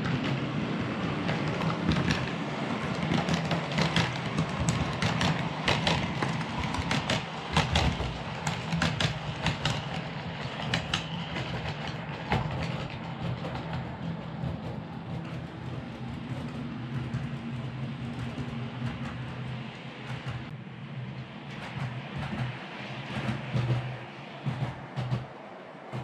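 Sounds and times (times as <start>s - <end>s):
wheels clicking over rail joints: 0.0s - 20.6s, 21.2s - 26.0s.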